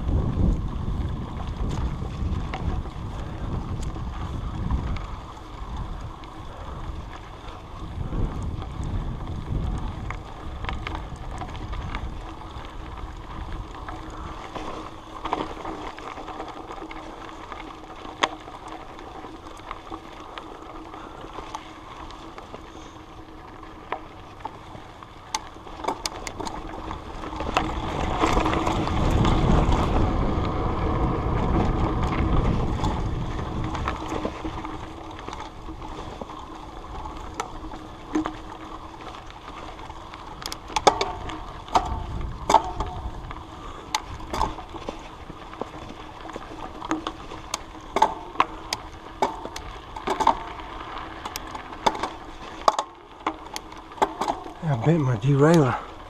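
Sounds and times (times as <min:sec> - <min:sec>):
bike clicks and rattles: 0:00.0 - 0:56.0
wind rumbling on microphone: 0:00.0 - 0:56.0.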